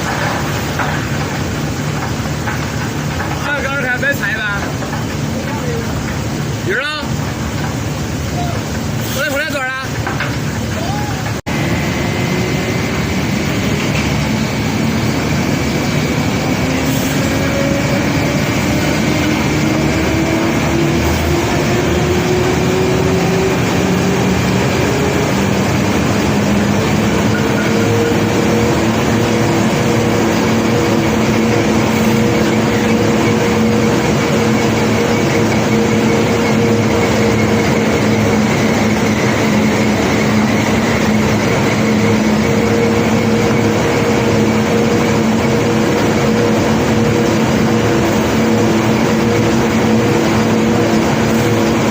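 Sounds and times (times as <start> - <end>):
heavy machinery engine running: 0.0 - 51.9.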